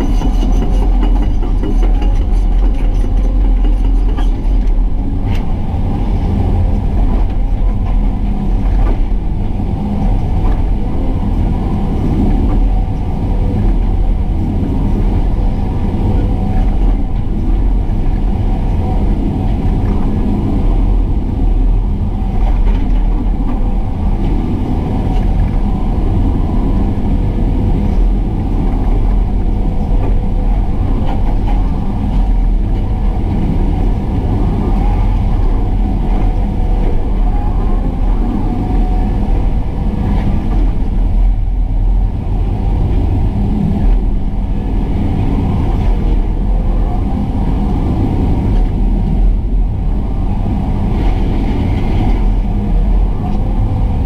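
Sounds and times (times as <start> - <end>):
excavator diesel engine rumbling: 0.0 - 54.0.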